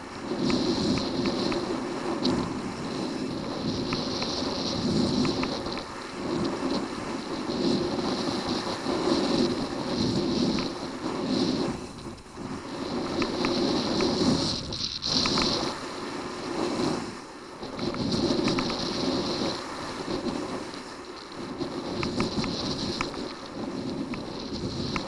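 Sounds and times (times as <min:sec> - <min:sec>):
skis scraping on snow: 0:00.0 - 0:25.0
wind rush on microphone: 0:00.0 - 0:25.0.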